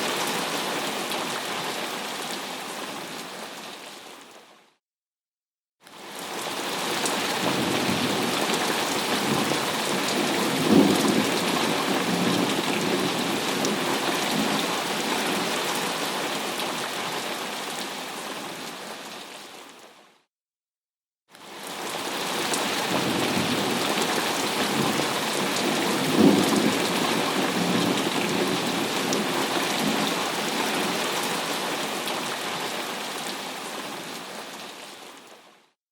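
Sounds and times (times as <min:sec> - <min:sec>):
heavy rain: 0:00.0 - 0:04.4, 0:05.9 - 0:19.8, 0:21.4 - 0:35.5.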